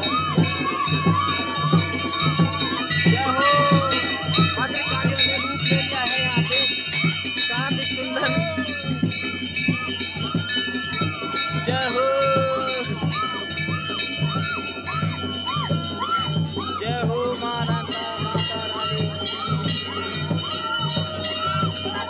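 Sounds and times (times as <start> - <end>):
steady drum beat: 0.0 - 22.0
temple bells ringing: 0.0 - 22.0.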